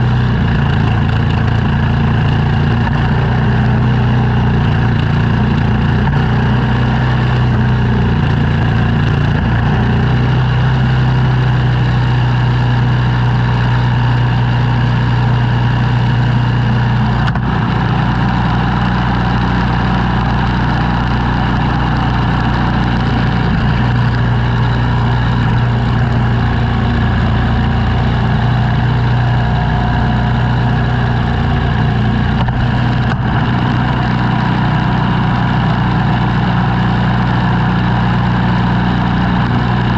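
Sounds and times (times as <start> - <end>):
engine humming deeply: 0.0 - 39.9.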